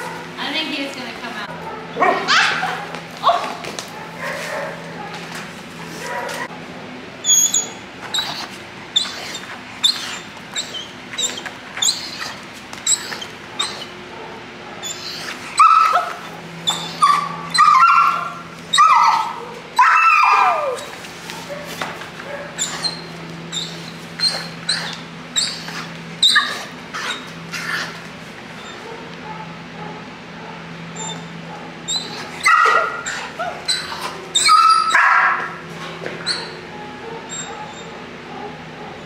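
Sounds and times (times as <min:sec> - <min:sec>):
puppy barking and yipping: 0:01.7 - 0:05.3, 0:07.2 - 0:28.0, 0:28.6 - 0:35.6, 0:36.2 - 0:39.0
puppy whining: 0:07.2 - 0:39.0.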